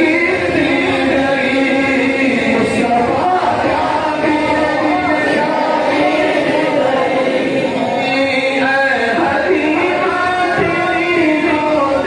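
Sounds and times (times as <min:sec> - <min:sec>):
men chanting a hymn: 0:00.0 - 0:12.0.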